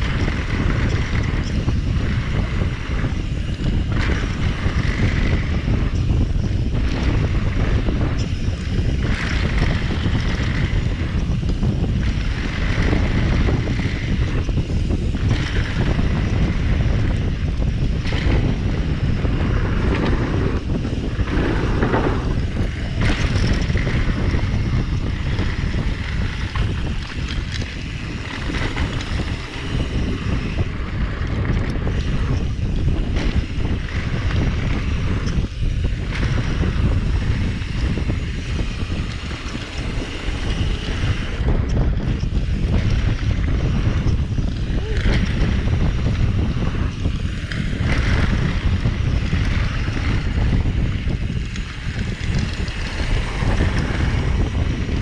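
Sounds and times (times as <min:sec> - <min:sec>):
bike rattling: 0:00.0 - 0:55.0
tyres rolling on dirt: 0:00.0 - 0:55.0
wind on microphone: 0:00.0 - 0:55.0.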